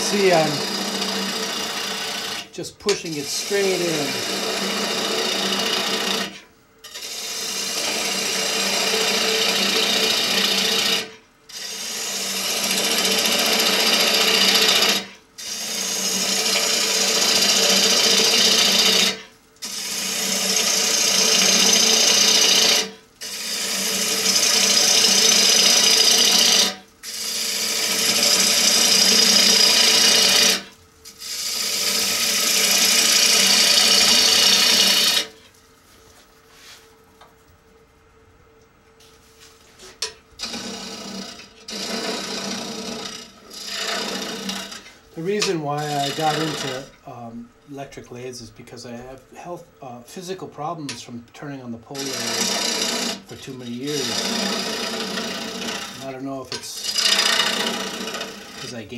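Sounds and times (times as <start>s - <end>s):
lathe gouge cutting wood hiss: 0.0s - 6.2s, 6.9s - 35.3s, 40.4s - 46.9s, 52.0s - 56.1s, 56.8s - 58.8s
lathe low hum: 0.0s - 6.3s, 6.9s - 58.9s.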